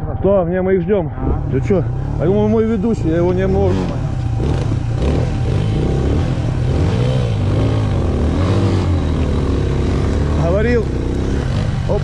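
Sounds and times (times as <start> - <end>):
motorcycle engine revving: 1.0 - 12.0.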